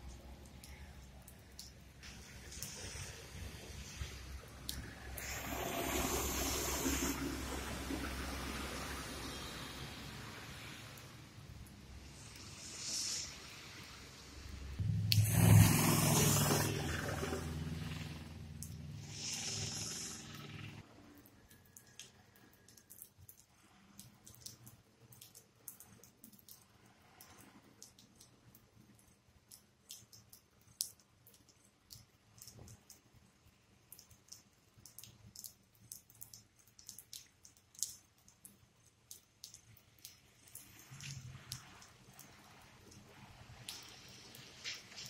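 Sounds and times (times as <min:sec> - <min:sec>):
water dripping: 0:00.0 - 0:12.6, 0:14.8 - 0:16.8, 0:18.5 - 0:19.0, 0:20.8 - 0:45.0.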